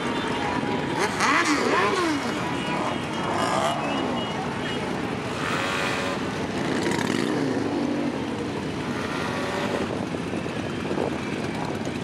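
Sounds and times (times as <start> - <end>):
many motorcycle engines running: 0.0 - 12.0.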